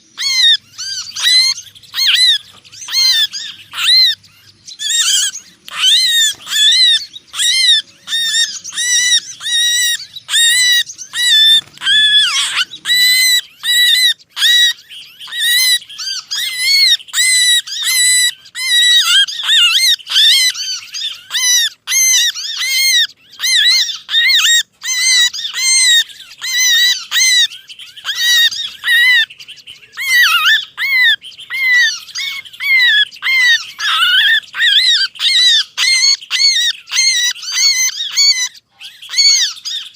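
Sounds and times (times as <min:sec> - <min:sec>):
songbird alarm calls: 0:00.0 - 0:39.9.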